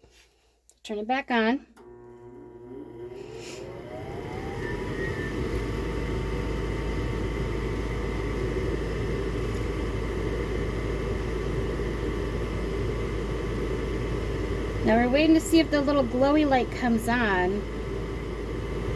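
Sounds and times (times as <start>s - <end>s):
furnace fan whirring hum: 1.8s - 18.9s.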